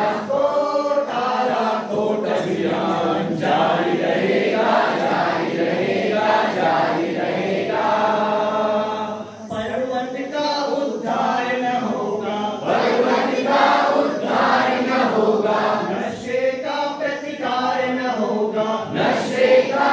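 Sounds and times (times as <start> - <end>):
men singing in unison: 0.0 - 19.9.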